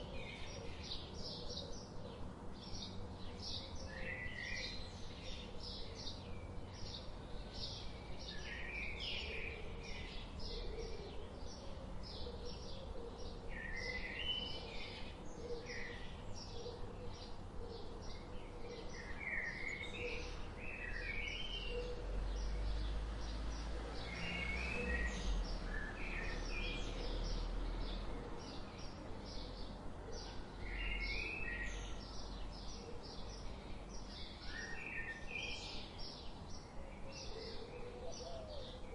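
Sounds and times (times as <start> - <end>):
small birds chirping and singing: 0.0 - 38.9.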